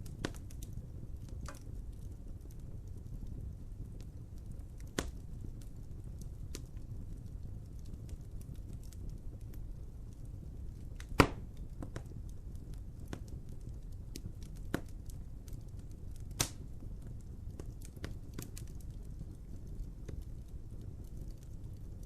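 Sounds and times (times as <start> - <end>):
loud fire pops: 0.0 - 21.9
low steady rumble: 0.0 - 22.0
wood fire crackling: 0.0 - 22.0.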